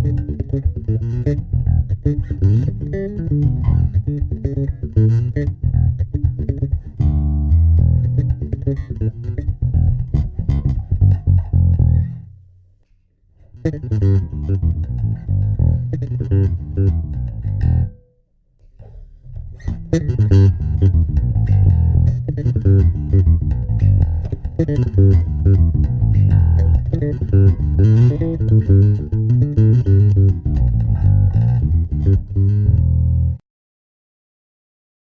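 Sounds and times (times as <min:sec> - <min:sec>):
electric bass guitar plucked notes: 0:00.0 - 0:12.4, 0:13.4 - 0:18.2, 0:18.8 - 0:33.4.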